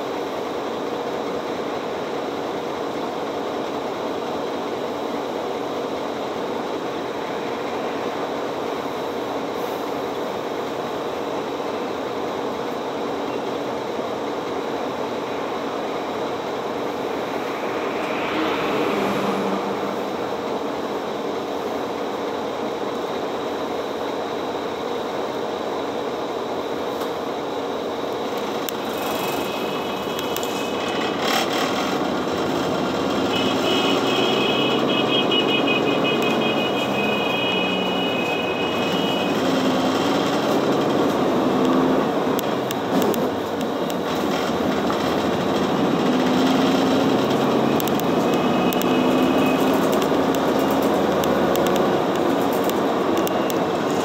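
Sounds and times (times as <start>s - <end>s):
bus engine idling: 0.0s - 54.0s
bus pulling away: 0.0s - 54.0s.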